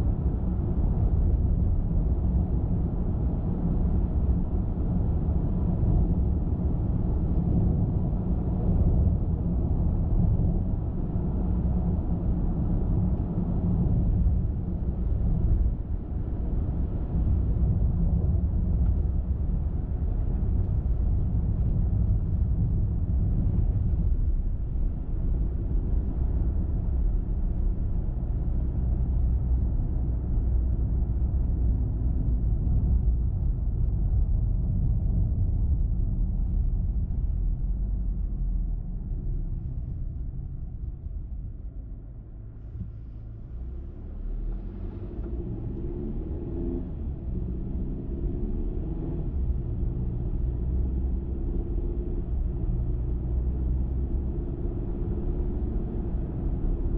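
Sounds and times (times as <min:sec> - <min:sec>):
car tyre and engine rumble: 0:00.0 - 0:56.9.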